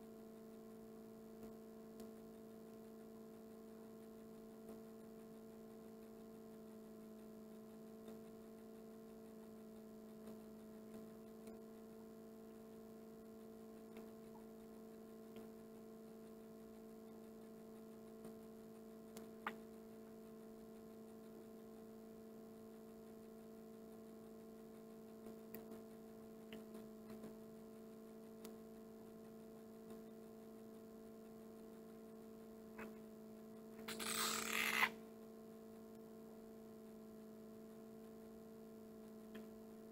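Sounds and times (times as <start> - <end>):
electrical hum: 0.0 - 39.9
faint ticks: 0.0 - 39.9.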